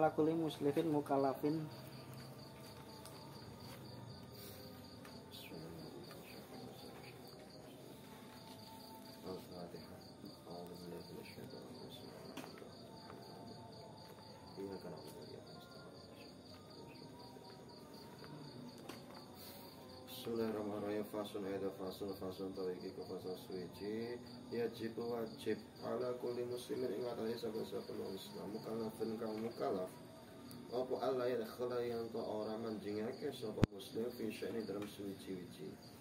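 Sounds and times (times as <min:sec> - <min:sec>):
insect chirping: 0:00.0 - 0:36.0.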